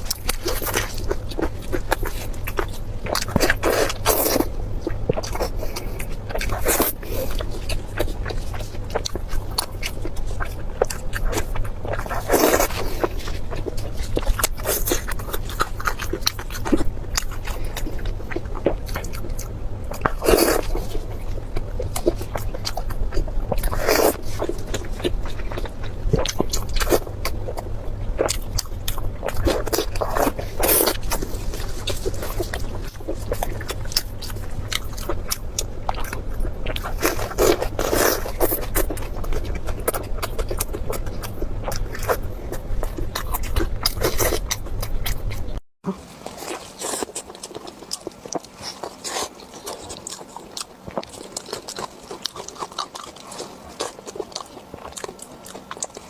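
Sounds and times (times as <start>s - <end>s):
low hum: 0.0s - 46.8s
chewing and mouth clicks: 0.0s - 56.0s
crunching bite: 0.0s - 56.0s.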